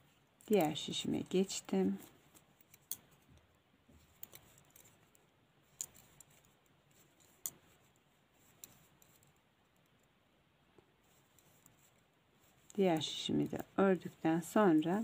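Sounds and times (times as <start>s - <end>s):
knitting needles clicking: 0.4s - 15.0s.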